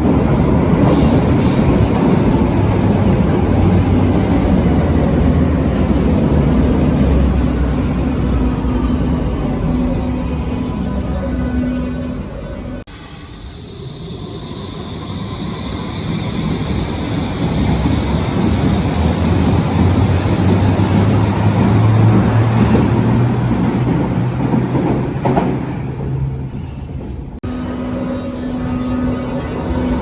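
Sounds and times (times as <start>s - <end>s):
subway train running: 0.0s - 30.0s.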